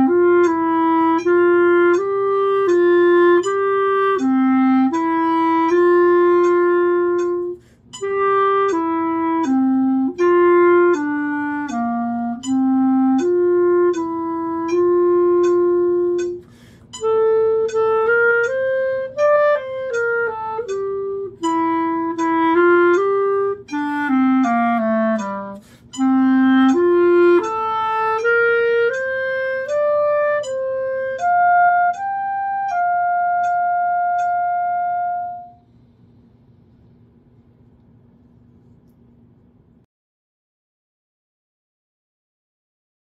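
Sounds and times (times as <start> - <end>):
solo clarinet melody: 0.0 - 35.7.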